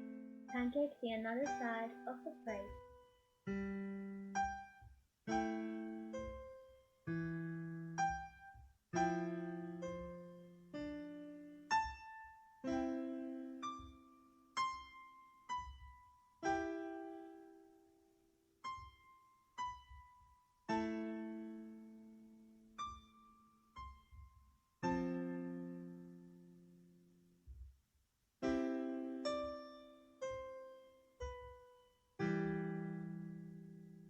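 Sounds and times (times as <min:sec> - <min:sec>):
slow solo piano: 0:02.7 - 0:27.7, 0:28.4 - 0:34.0.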